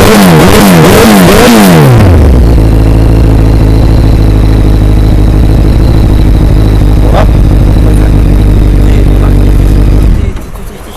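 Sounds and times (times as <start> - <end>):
motorcycle engine idling: 2.0 - 10.9.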